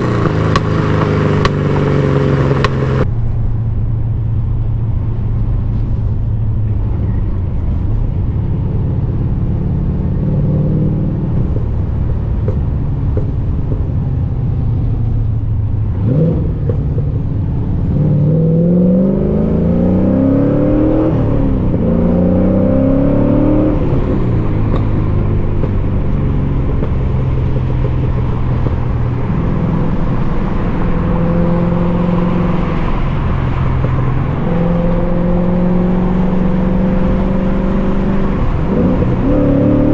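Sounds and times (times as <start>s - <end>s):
car engine exhaust revving: 0.0s - 6.7s, 8.6s - 39.9s.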